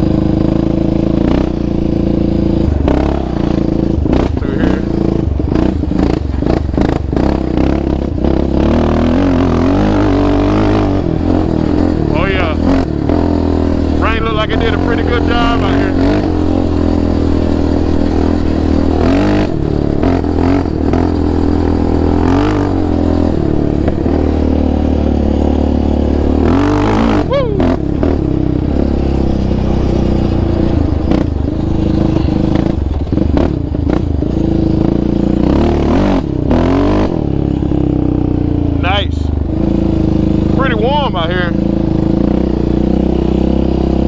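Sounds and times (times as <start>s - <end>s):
quad engine revving: 0.0s - 44.0s.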